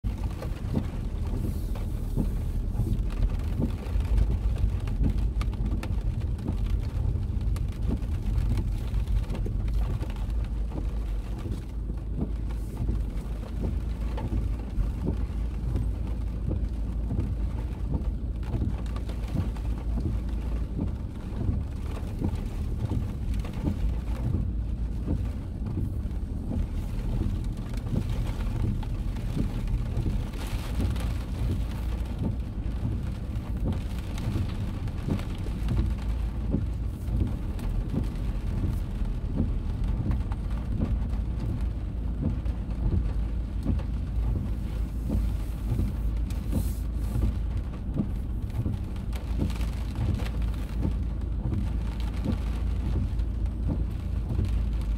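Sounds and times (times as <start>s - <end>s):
car rumbling low: 0.0s - 54.9s
rain ticking on car roof: 0.0s - 54.9s.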